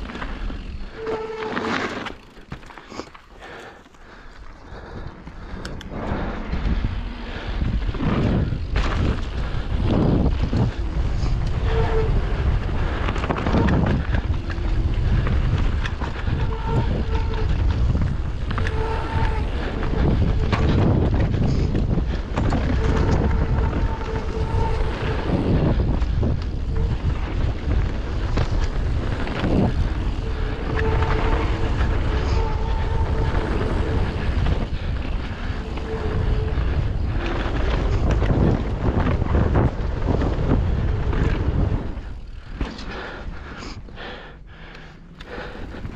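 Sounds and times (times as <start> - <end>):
bike rattling on bumps: 0.0 - 45.9
wind rush on microphone: 3.4 - 45.9.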